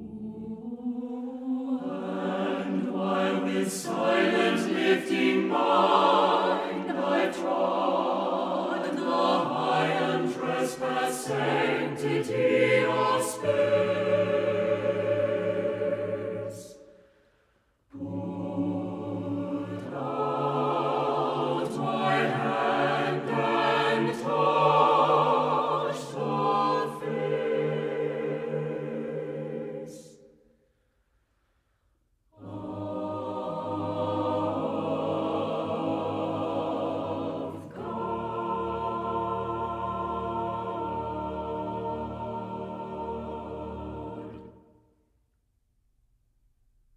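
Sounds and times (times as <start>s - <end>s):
choir singing held chords: 0.0s - 17.2s, 17.8s - 30.7s, 32.3s - 45.1s.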